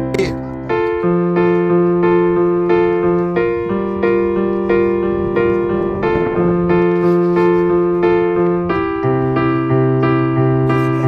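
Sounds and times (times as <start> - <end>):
bass notes: 0.0 - 11.0
piano playing repeated chords: 0.0 - 11.0.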